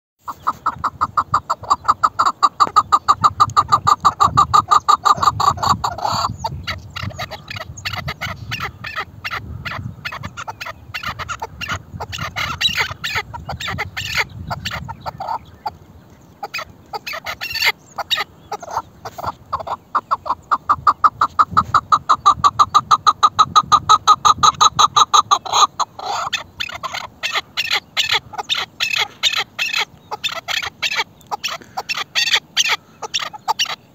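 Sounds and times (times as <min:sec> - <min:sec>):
partridges calling: 0:00.2 - 0:33.9.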